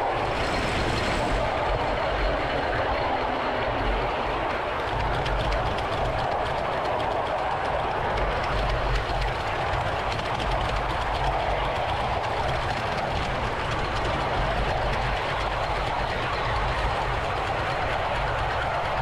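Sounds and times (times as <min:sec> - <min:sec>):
miniature train rumbling on track: 0:00.0 - 0:19.0
wheels ticking on rails: 0:00.0 - 0:19.0.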